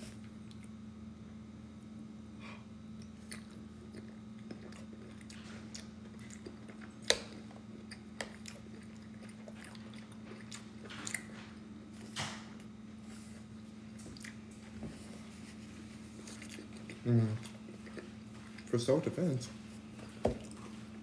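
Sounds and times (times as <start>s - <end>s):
man chewing food: 0.0s - 1.1s, 1.7s - 21.0s
faint low hum: 0.0s - 21.0s.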